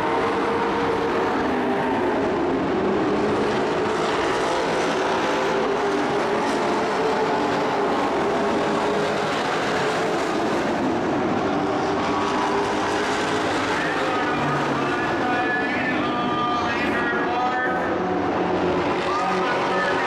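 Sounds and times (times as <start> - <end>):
racing truck engines: 0.0 - 20.0.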